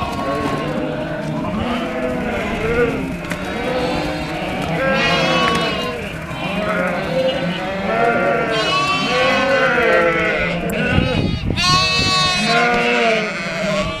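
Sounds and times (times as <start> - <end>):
sheep and lambs bleating: 0.0 - 14.0.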